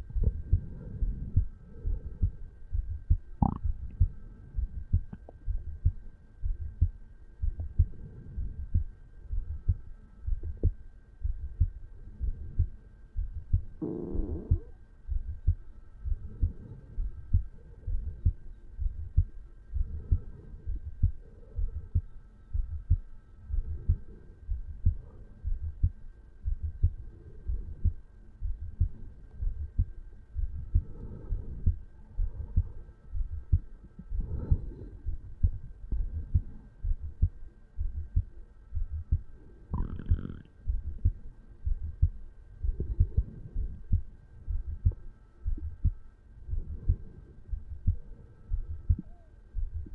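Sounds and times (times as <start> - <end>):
heartbeat thumps: 0.0 - 49.9.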